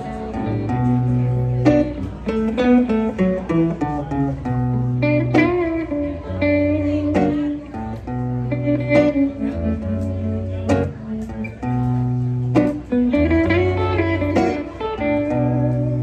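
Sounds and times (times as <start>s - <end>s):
acoustic guitar: 0.0s - 16.0s
electric guitar: 0.0s - 16.0s.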